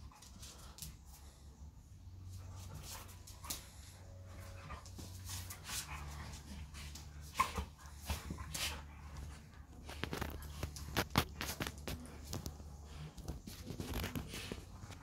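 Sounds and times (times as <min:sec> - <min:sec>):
dogs scuffling and mouthing: 0:02.2 - 0:15.0.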